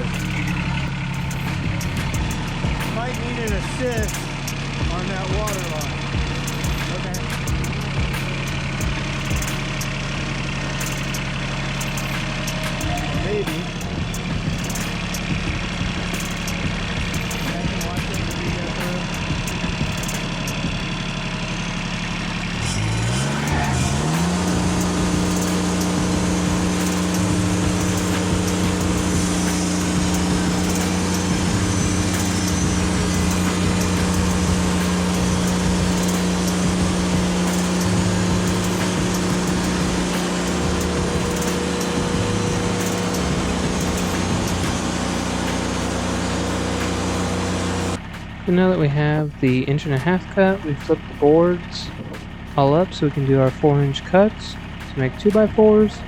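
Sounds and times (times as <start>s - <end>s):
sawmill engine revving: 0.0s - 56.0s.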